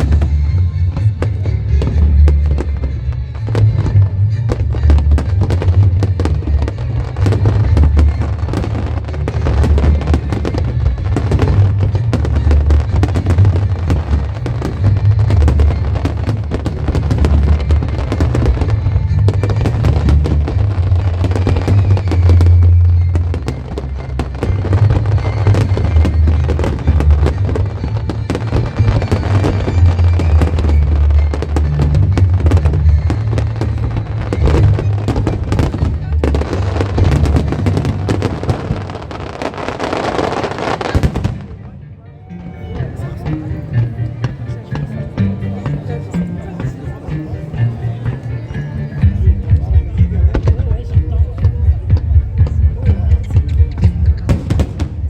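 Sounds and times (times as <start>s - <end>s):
fireworks bangs and crackles: 0.0s - 41.8s, 49.2s - 55.0s
music with heavy bass: 0.0s - 55.0s.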